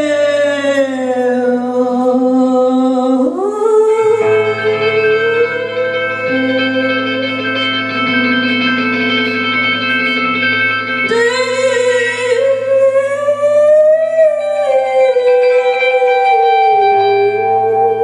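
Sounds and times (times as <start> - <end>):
electric guitar droning: 0.0 - 18.0
person singing: 0.0 - 18.0.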